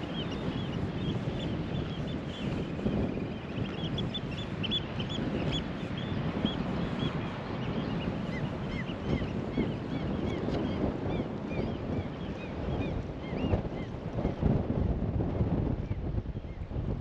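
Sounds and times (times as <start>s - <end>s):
sea: 0.0s - 17.0s
wind: 0.0s - 17.0s.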